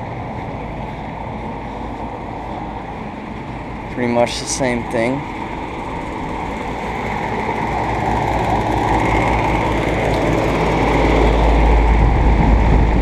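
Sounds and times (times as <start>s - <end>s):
air conditioning unit running: 0.0s - 13.0s.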